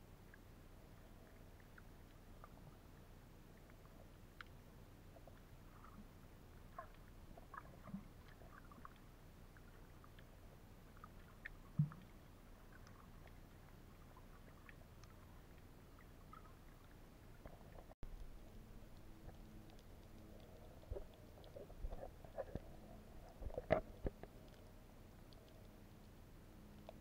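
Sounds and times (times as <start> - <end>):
faint underwater clicks: 0.1 - 27.0.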